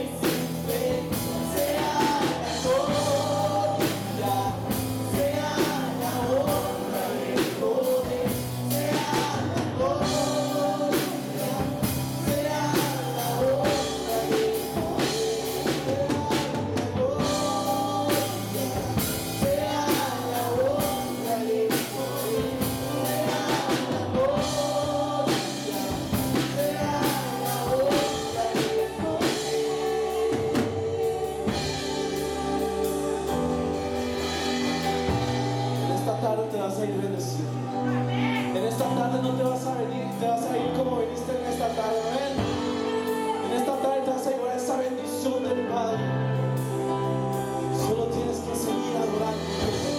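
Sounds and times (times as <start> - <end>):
woman singing: 0.0 - 36.7, 37.6 - 40.7, 41.6 - 49.9
rock band playing: 0.0 - 49.9.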